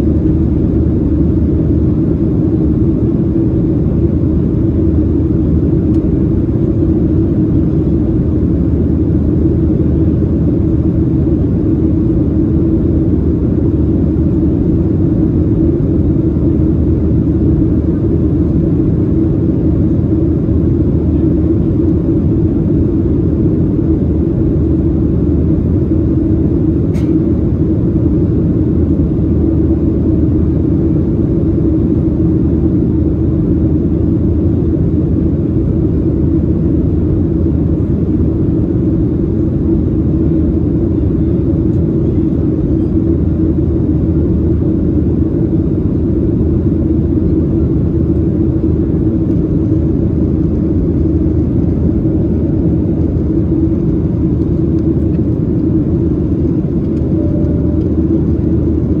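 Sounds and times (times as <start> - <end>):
airplane cabin engine drone: 0.0 - 59.0
constant low hum: 0.0 - 59.0.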